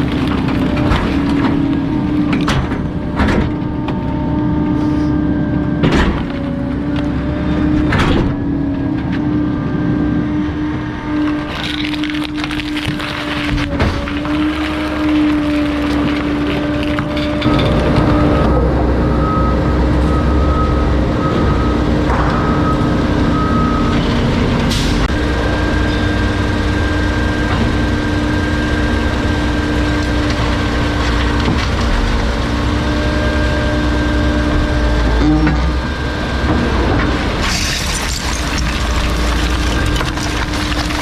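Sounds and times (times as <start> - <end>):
garbage truck compactor hum: 0.0 - 41.0.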